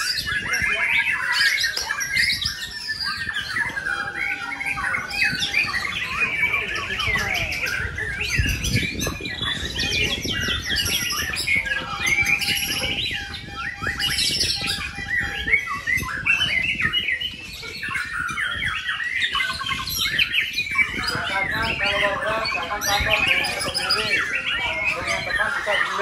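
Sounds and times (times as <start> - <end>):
birds singing: 0.0 - 26.0.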